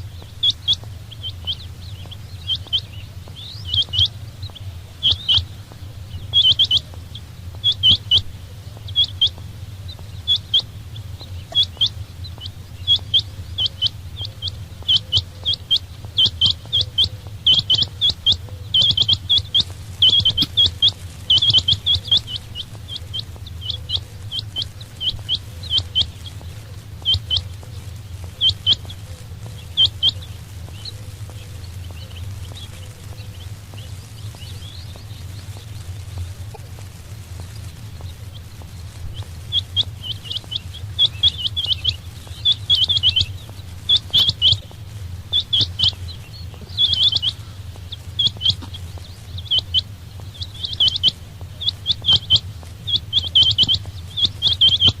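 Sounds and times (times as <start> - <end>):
low hum: 0.0 - 55.0
quail chirping calls: 0.0 - 55.0.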